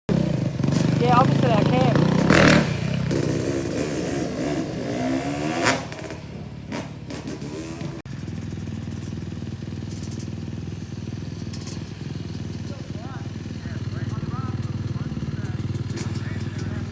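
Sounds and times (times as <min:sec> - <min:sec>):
engine droning steadily: 0:00.1 - 0:16.9
motorbike engines revving: 0:00.1 - 0:16.9.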